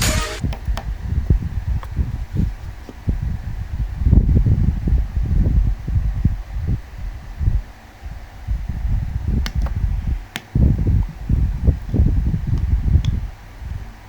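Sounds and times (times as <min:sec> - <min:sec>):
handling rumble and rustling: 0:00.4 - 0:07.4, 0:08.1 - 0:14.0.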